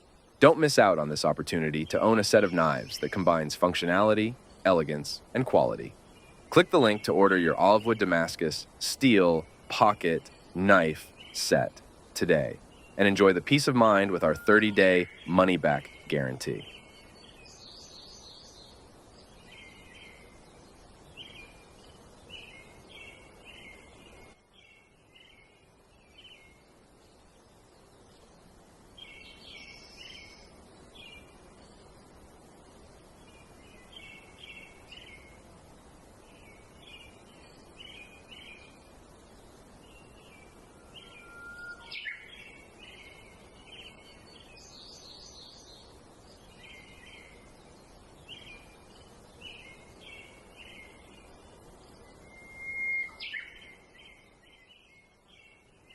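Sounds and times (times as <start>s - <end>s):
background hiss: 0.0s - 55.9s
small birds chirping: 0.0s - 55.9s.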